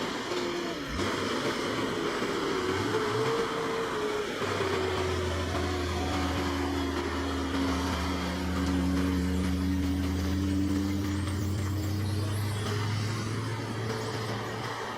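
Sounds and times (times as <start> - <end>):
heavy vehicle engine whine: 0.0 - 14.9
low steady hum: 0.3 - 14.9.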